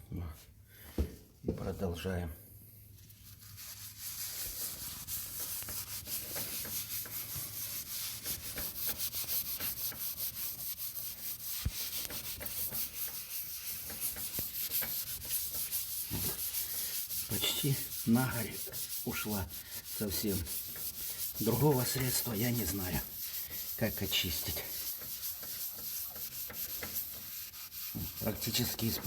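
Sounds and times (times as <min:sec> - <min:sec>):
wipe scrubbing glass: 0:03.0 - 0:29.0.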